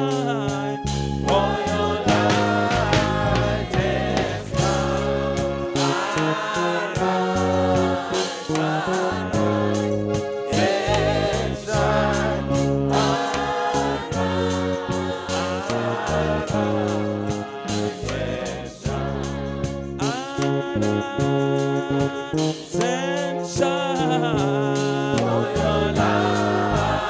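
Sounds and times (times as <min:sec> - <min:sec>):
band accompaniment with bass: 0:00.0 - 0:27.0
group of voices singing: 0:00.0 - 0:27.0.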